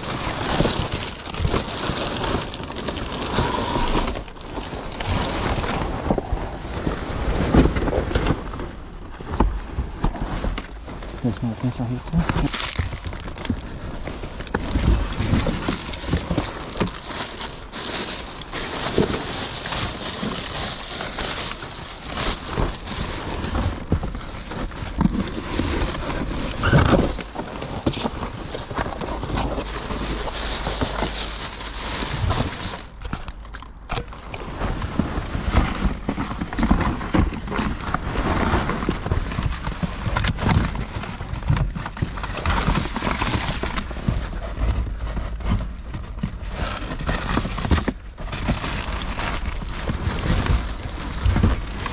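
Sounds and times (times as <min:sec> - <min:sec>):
rustling and crinkling: 0:00.0 - 0:51.9.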